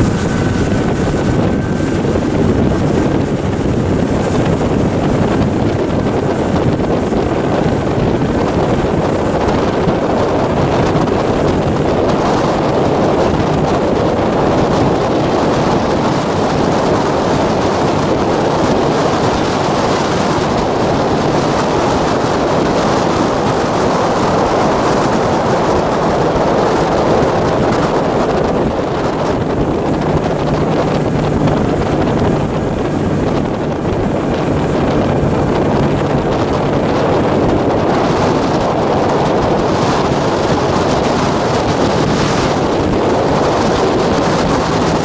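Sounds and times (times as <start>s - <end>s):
outboard motor running: 0.0s - 45.0s
water rushing and spraying: 0.0s - 45.0s
wind buffeting microphone: 0.0s - 45.0s.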